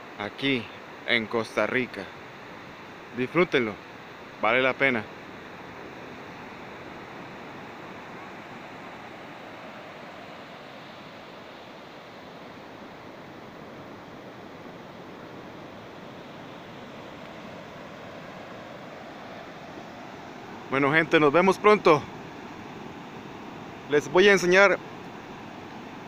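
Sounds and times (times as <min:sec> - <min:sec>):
ocean surf washing onto beach: 0:00.0 - 0:26.0.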